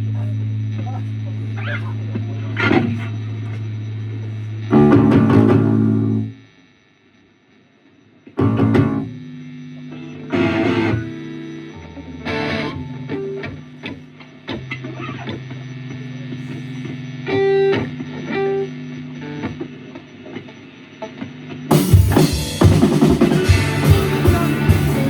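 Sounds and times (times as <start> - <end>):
electric guitar chords: 0.0 - 6.4, 8.3 - 25.0.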